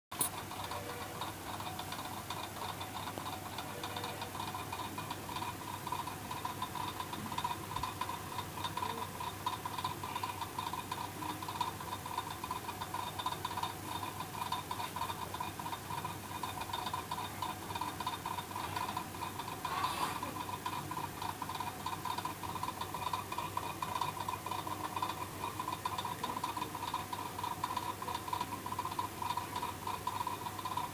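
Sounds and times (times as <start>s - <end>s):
faint flickering ticking: 0.1s - 30.9s.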